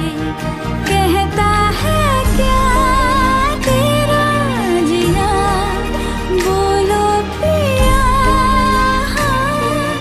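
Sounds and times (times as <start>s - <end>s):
instrumental backing music: 0.0s - 10.0s
person singing a melody: 0.0s - 10.0s.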